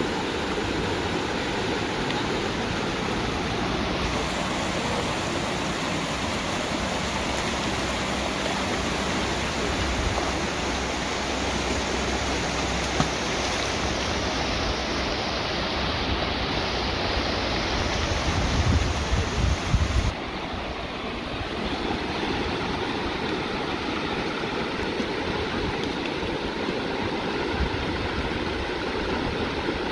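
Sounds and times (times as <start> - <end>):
river rushing over stones: 0.0 - 29.9.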